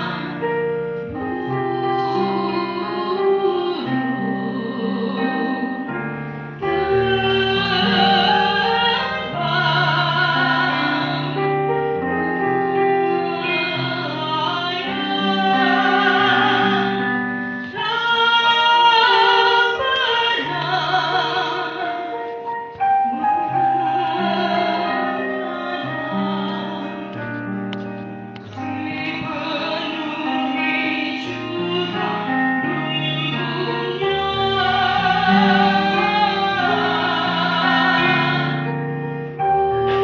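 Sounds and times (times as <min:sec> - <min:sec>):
woman singing with vibrato: 0:00.0 - 0:06.0, 0:06.6 - 0:27.4, 0:28.5 - 0:39.0
instrumental accompaniment: 0:00.0 - 0:40.0.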